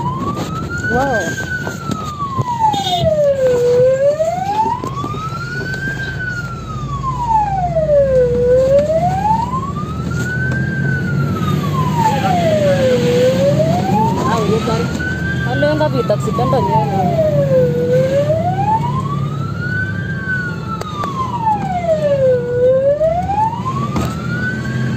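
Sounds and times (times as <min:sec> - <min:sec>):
fire engine wail siren: 0:00.0 - 0:24.9
truck engine low rumble: 0:00.0 - 0:24.9.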